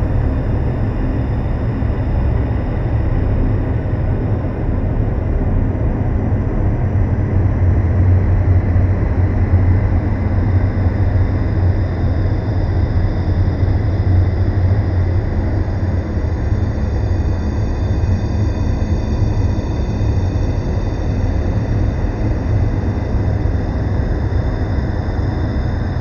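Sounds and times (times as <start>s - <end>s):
dark ambient drone music: 0.0s - 26.0s.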